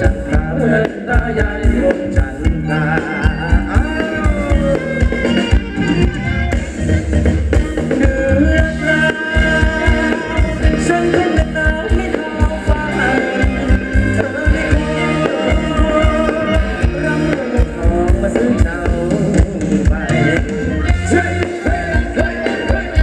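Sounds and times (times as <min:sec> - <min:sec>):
person singing: 0:00.0 - 0:05.6, 0:07.5 - 0:23.0
live band playing dance music: 0:00.0 - 0:23.0
steady drum beat: 0:00.0 - 0:23.0.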